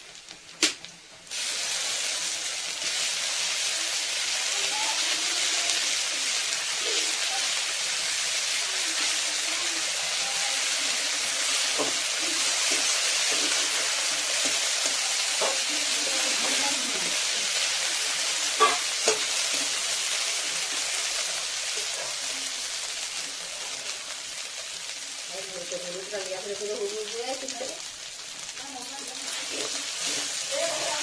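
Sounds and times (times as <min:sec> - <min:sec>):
oil sizzling in a wok: 0:00.0 - 0:31.0.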